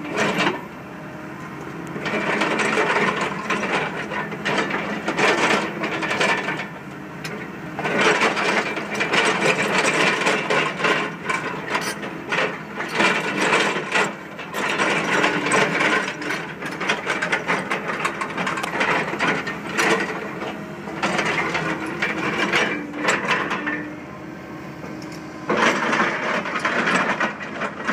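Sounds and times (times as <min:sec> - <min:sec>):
diesel engine and hydraulics hum: 0:00.0 - 0:27.9.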